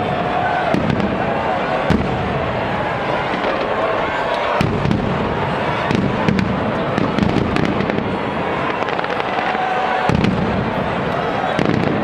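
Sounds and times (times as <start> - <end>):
fireworks bangs and crackles: 0.0 - 12.0
fireworks booming: 0.0 - 12.0.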